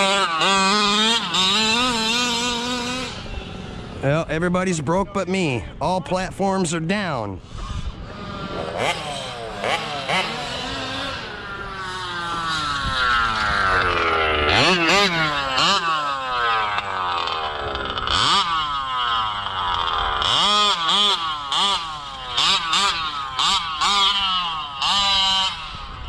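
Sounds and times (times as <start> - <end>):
rc car engine revving: 0.0 - 4.5, 7.4 - 26.0.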